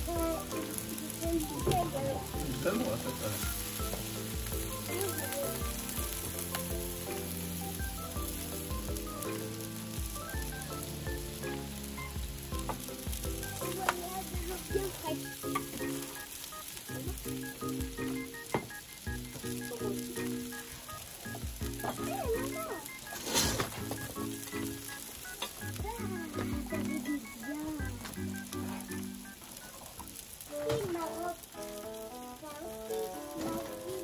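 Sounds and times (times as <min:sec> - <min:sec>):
background music: 0:00.0 - 0:34.0
sausages sizzling on a grill: 0:00.0 - 0:34.0.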